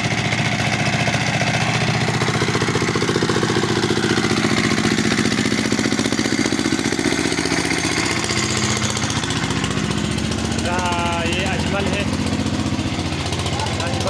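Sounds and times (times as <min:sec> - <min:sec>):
engine chugging steadily: 0:00.0 - 0:14.0.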